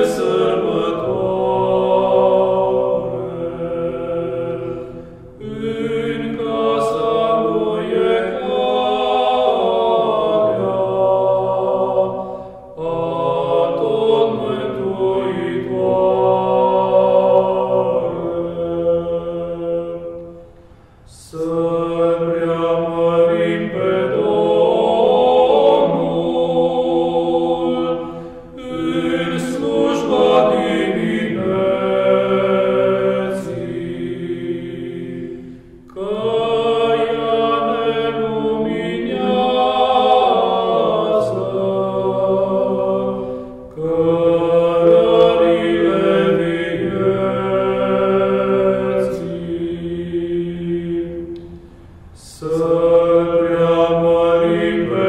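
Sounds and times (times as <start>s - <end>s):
unaccompanied choral chant: 0.0s - 55.0s.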